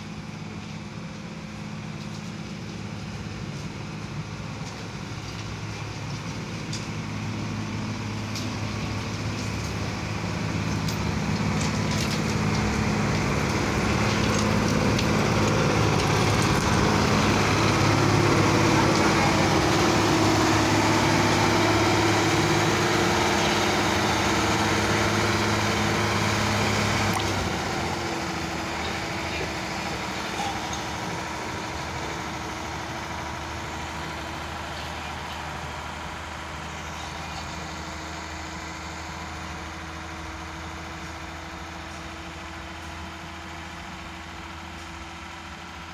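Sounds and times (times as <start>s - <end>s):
diesel engine passing: 0.0s - 45.9s.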